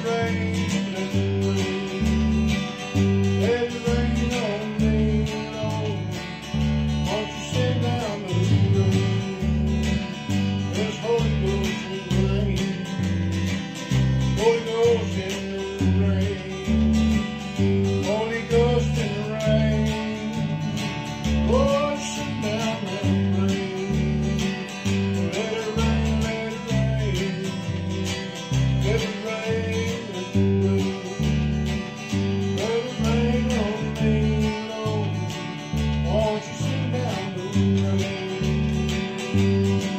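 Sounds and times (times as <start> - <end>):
electric bass line: 0.0 - 39.9
strummed acoustic guitar: 0.0 - 39.9.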